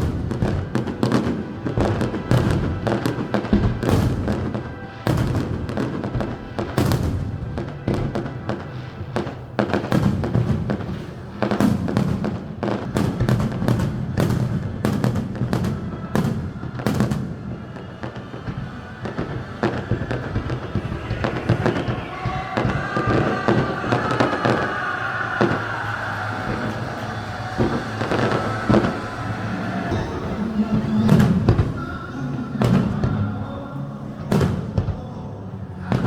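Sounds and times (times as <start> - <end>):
fireworks bursting: 0.0 - 36.0
music playing: 0.0 - 36.0.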